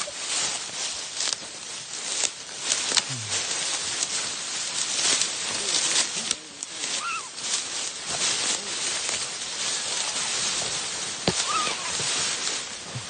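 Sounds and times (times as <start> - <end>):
footsteps crunching through dry leaves: 0.0 - 13.0
twigs crackling: 0.0 - 13.0.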